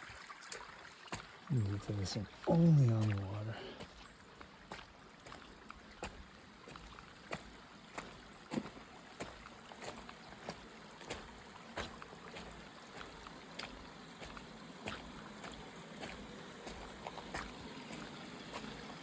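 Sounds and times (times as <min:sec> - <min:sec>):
faint trickle of water: 0:00.0 - 0:19.0
footsteps on wet rock and gravel: 0:00.1 - 0:19.0.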